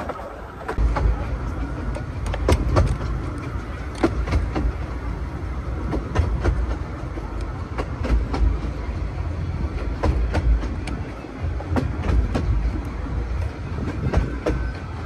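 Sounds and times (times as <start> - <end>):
train carriage rumbling: 0.0 - 15.0
wheels clicking over rail joints: 0.0 - 15.0.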